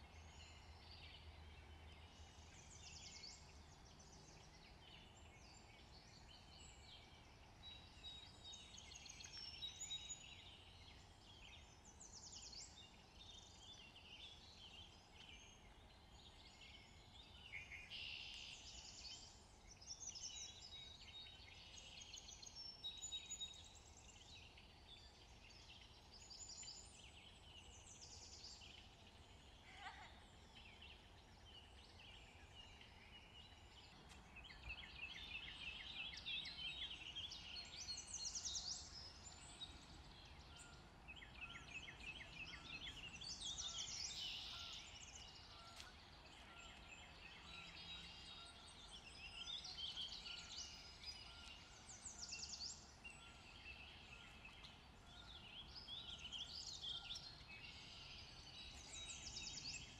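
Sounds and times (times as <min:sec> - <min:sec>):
faint birds chirping: 0:00.0 - 0:59.9.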